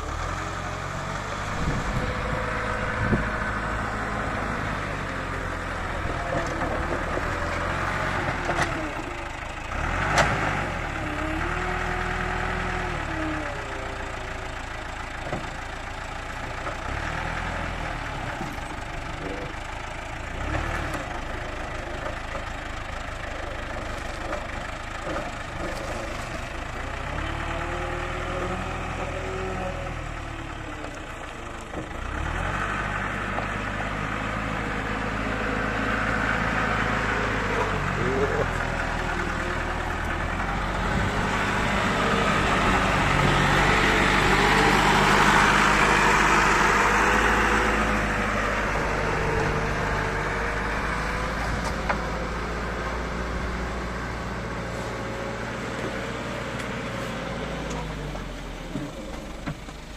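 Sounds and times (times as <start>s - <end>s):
diesel engine revving: 0.0s - 59.9s
loader bucket scooping dirt: 0.0s - 59.9s.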